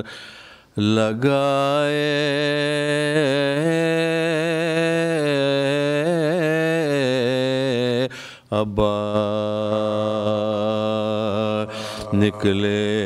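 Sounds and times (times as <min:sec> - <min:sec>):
man chanting a lament: 0:00.8 - 0:13.0.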